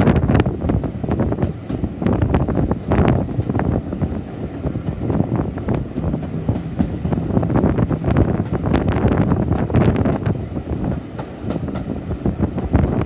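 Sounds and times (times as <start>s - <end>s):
train coach rumbling: 0.0s - 13.0s
wheels clicking on track: 0.0s - 13.0s
wind buffeting microphone: 0.0s - 13.0s.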